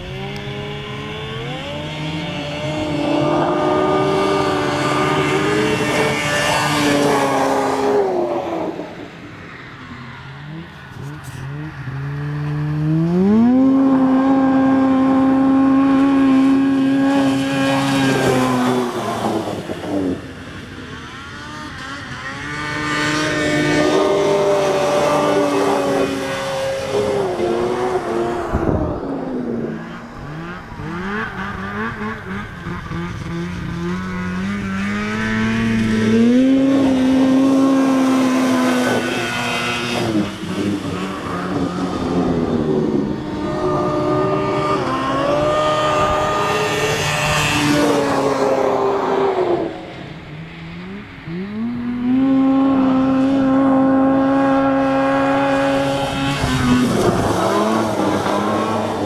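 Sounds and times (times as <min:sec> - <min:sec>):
snowmobile engines revving: 0:00.0 - 0:59.0.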